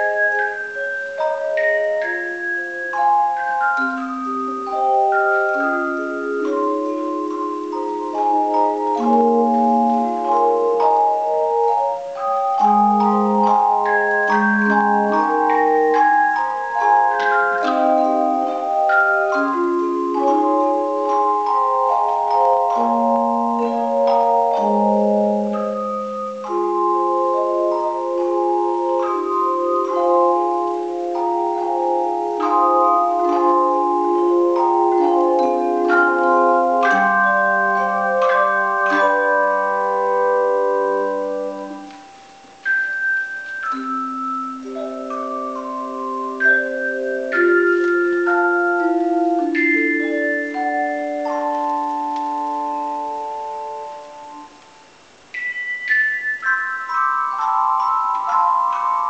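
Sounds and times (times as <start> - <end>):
tone chimes playing hymn: 0.0 - 59.0.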